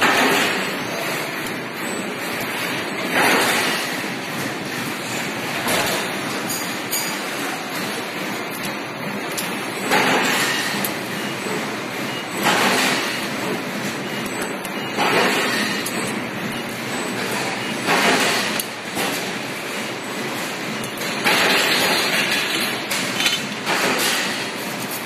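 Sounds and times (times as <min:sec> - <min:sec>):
machine-shop noise: 0:00.0 - 0:25.0.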